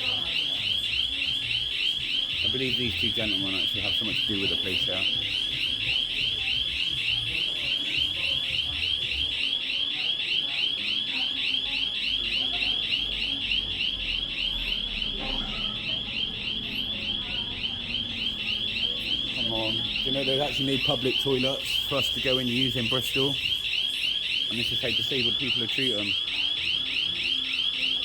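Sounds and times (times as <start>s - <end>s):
warbling electronic alarm tone: 0.0s - 28.0s.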